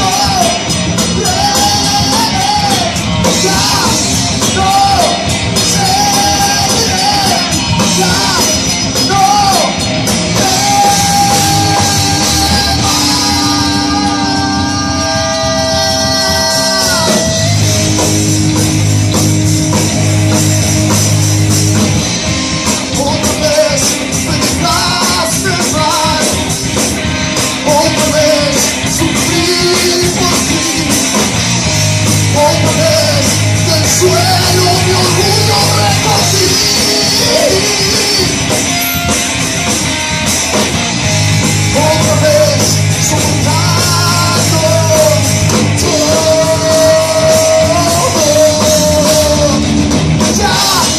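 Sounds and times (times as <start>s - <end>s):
man singing: 0.0s - 18.2s, 22.8s - 26.6s, 27.5s - 31.4s, 32.2s - 38.7s, 41.7s - 50.9s
bass guitar: 0.0s - 50.9s
drum kit: 0.0s - 50.9s
electric guitar: 0.0s - 50.9s.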